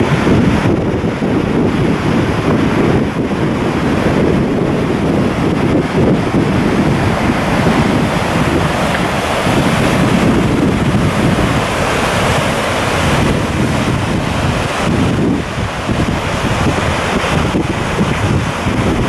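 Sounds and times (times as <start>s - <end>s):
river rushing through rapids: 0.0s - 19.0s
wind buffeting microphone: 0.0s - 19.0s.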